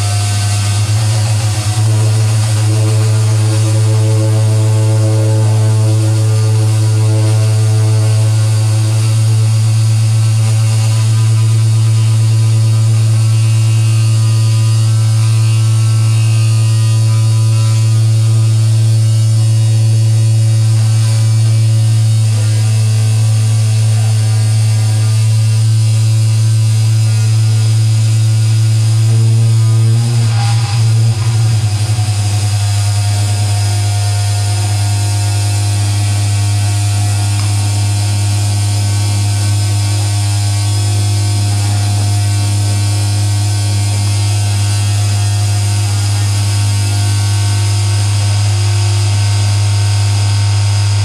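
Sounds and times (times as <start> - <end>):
low electronic drone with hiss: 0.0 - 51.0.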